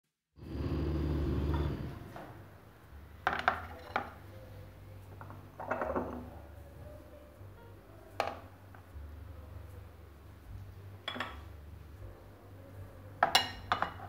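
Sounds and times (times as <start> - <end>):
low steady hum: 0.4 - 14.0.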